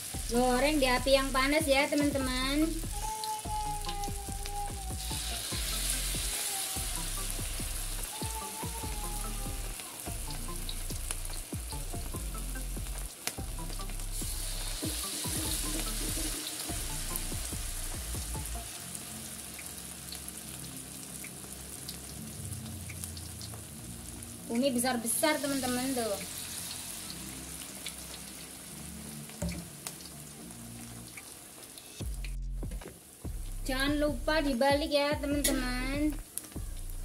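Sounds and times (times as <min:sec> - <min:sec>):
batter sizzling in hot oil: 0:00.0 - 0:32.2.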